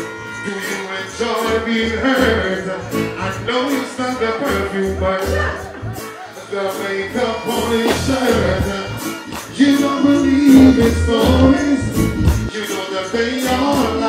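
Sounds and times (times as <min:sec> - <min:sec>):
man singing into a microphone: 0:00.0 - 0:14.0
reggae band music: 0:00.0 - 0:14.0.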